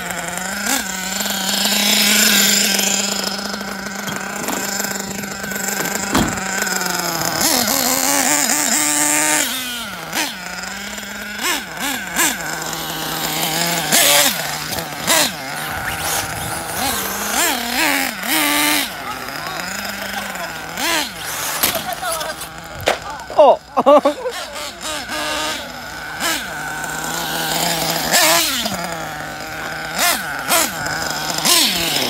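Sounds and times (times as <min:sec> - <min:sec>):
model car engine revving: 0:00.0 - 0:32.0.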